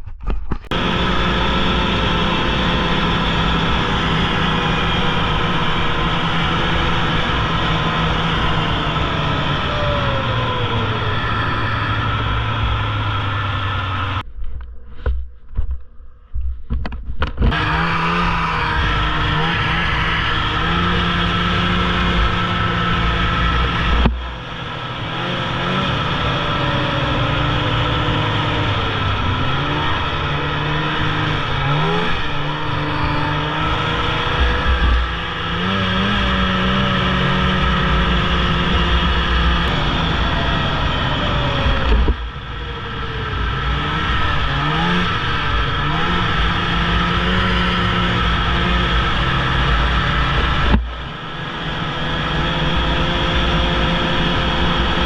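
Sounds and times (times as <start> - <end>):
snowmobile engine revving: 0.7 - 14.2, 17.5 - 55.0.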